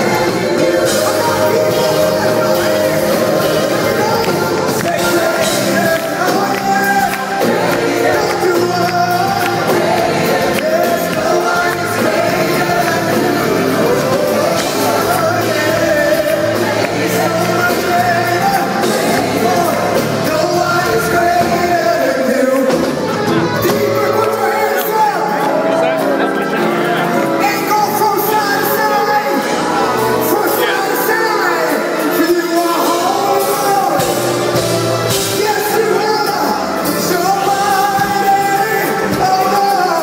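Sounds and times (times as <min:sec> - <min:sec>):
gospel band playing: 0:00.0 - 0:40.0
group of singers: 0:00.0 - 0:40.0.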